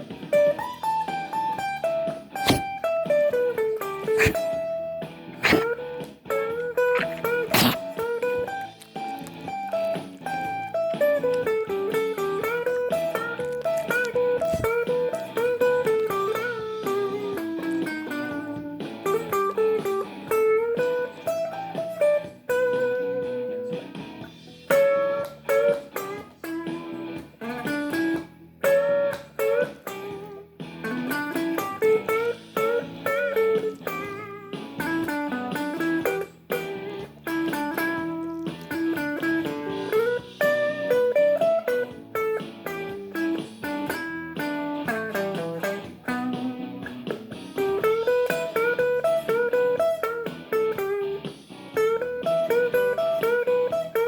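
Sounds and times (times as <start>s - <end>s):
blues guitar lead: 0.0s - 54.0s.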